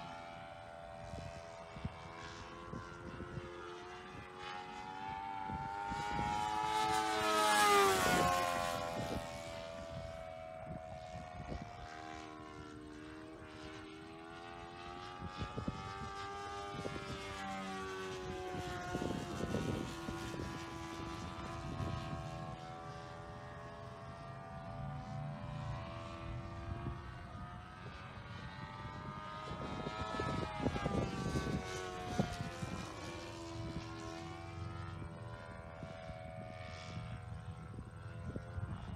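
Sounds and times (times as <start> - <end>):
model airplane engine buzzing: 0.0 - 38.9.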